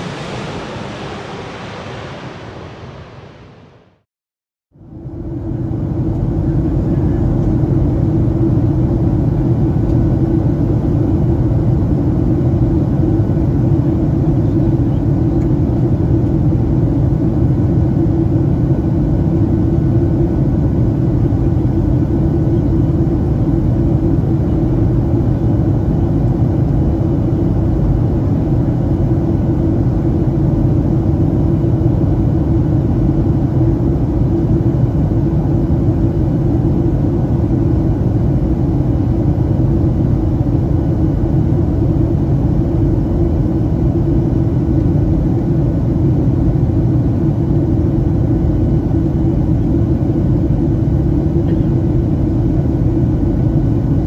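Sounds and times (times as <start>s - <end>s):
airplane cabin engine rumble: 0.0s - 4.1s, 4.8s - 54.0s.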